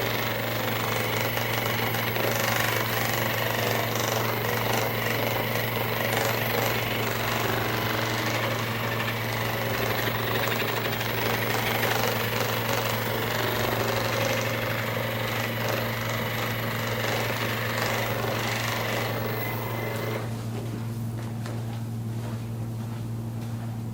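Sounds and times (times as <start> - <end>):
motorised percussion device hammering: 0.0 - 20.3.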